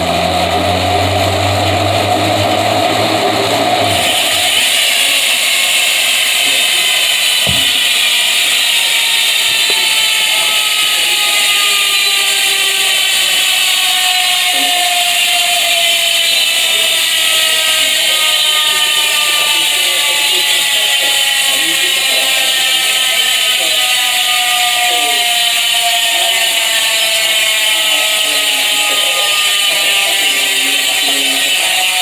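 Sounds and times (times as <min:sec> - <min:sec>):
bicycle freehub ratchet buzzing: 0:00.0 - 0:32.0.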